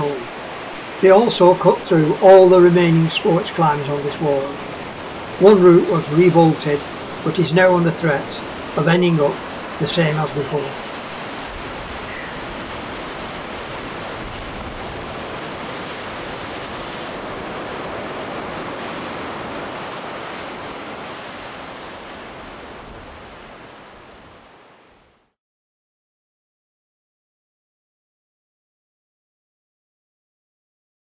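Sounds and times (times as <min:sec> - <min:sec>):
sea surf: 0:00.0 - 0:25.3
wind: 0:00.0 - 0:25.4.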